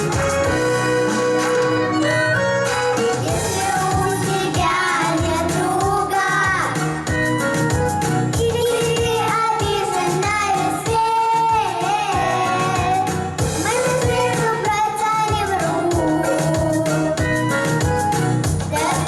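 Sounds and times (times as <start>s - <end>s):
children singing pop song: 0.0s - 19.0s
instrumental accompaniment with beat: 0.0s - 19.0s.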